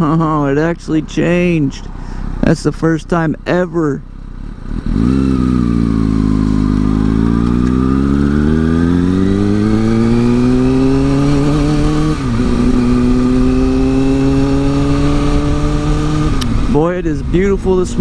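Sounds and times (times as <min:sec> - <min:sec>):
motorcycle engine accelerating: 0:02.3 - 0:18.0.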